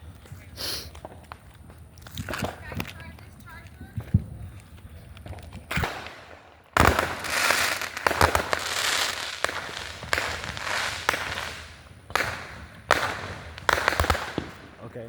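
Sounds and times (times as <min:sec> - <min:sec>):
firework bangs: 0:00.0 - 0:04.5, 0:05.2 - 0:15.0
firework crackling: 0:00.0 - 0:15.0.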